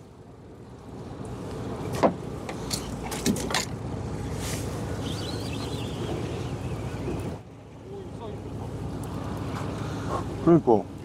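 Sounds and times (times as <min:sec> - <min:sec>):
boat engine rumbling: 0:00.0 - 0:11.0
wind: 0:00.0 - 0:11.0.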